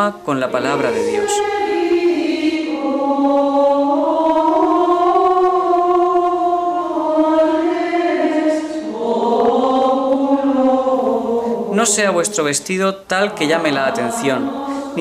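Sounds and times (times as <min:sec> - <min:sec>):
choir chanting sustained notes: 0:00.0 - 0:15.0.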